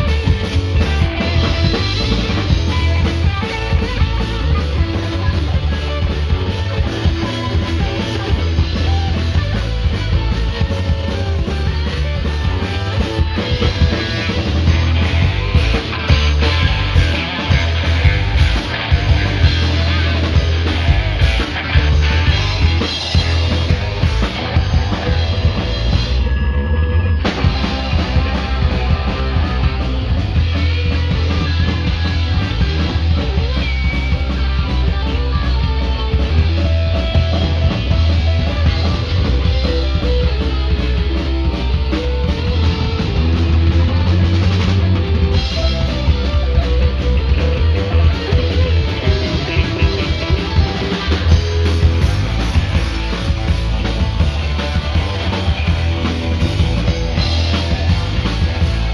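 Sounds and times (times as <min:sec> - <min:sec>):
punk rock band instrumental: 0:00.0 - 0:58.9.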